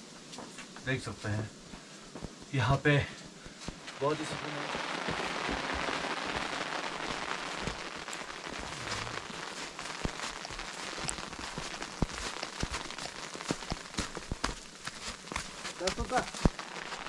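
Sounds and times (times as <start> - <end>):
rain hissing: 0.0 - 17.0
sharp taps of raindrops: 1.7 - 17.0.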